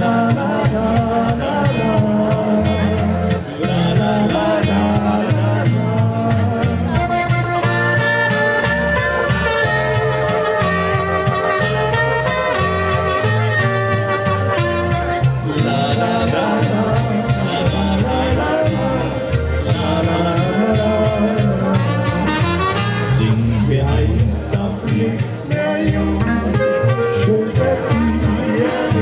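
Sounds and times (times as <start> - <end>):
band playing slow folk song: 0.0 - 29.0
person singing: 0.0 - 29.0.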